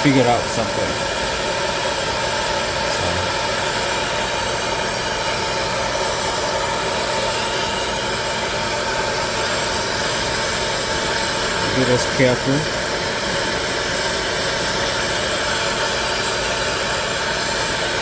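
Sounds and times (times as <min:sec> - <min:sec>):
blower fan rushing air: 0:00.0 - 0:18.0
faint motor whine: 0:00.0 - 0:18.0.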